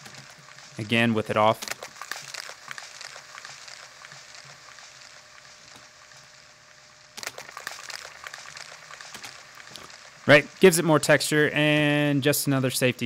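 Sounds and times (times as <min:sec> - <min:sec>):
gritty crackling: 0:00.0 - 0:12.0.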